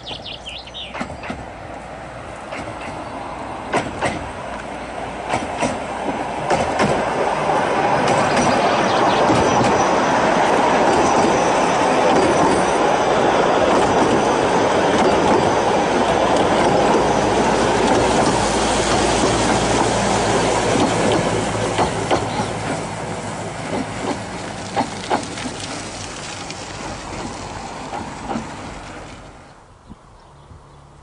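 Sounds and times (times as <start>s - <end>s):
tram wheels rumbling on rail: 0.0s - 30.1s
wheels clicking over rail joints: 0.1s - 29.6s.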